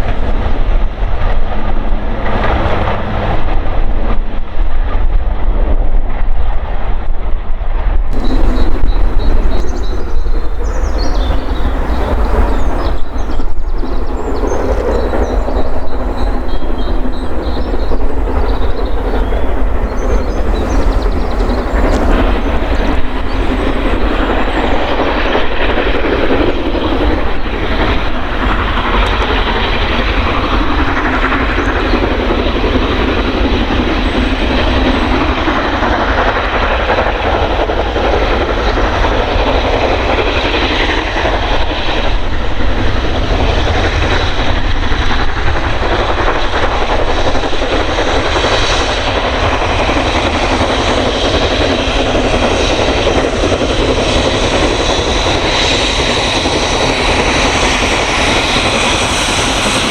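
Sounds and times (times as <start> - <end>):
train wheels rumbling over rail joints: 8.2 - 59.9.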